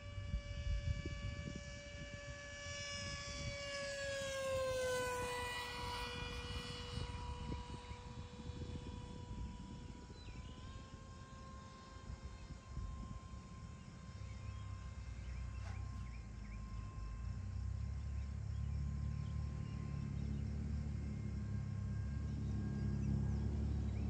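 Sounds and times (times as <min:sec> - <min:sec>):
model airplane motor whine: 0:00.0 - 0:24.0
wind rumble on microphone: 0:00.0 - 0:24.0.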